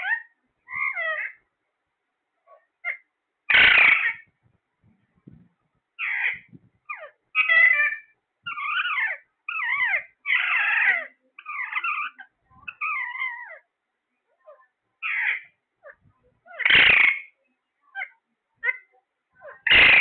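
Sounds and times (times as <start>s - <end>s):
parrot calling: 0.0s - 1.4s, 2.4s - 4.3s, 6.0s - 13.7s, 14.4s - 20.0s.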